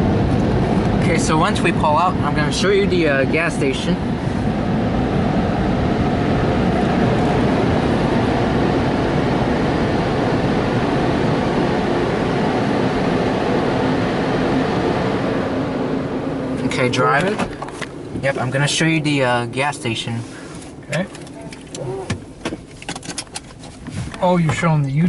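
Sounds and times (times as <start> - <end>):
car wash dryer blowers: 0.0 - 22.7.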